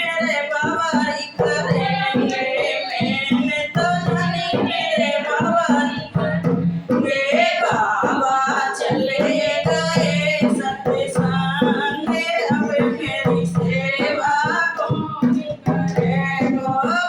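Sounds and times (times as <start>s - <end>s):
devotional song with accompaniment: 0.0s - 17.0s.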